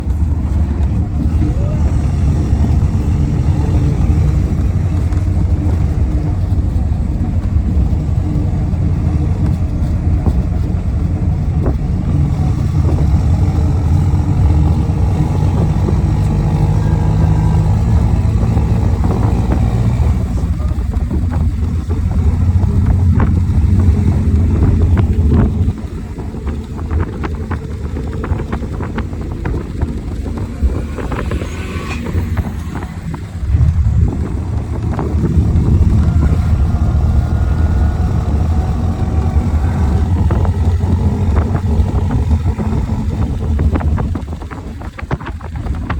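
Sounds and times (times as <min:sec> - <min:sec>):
vehicle engine low rumble: 0:00.0 - 0:45.9.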